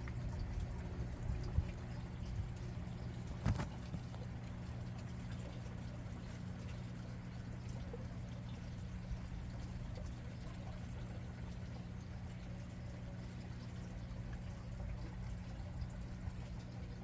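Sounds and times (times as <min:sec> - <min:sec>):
water pouring and trickling: 0:00.0 - 0:17.0.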